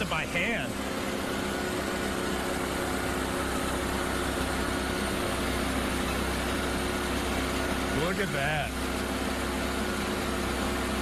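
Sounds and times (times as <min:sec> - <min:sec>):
band sawmill running: 0:00.0 - 0:11.0.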